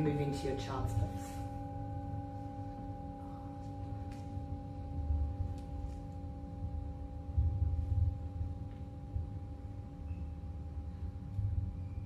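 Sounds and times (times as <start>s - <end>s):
drone of sustained tones: 0.0s - 12.0s
low rumble: 0.0s - 12.0s.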